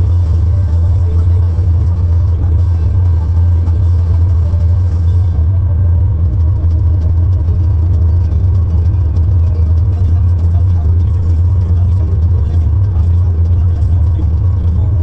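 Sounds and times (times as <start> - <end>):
tractor engine rumbling: 0.0 - 15.0.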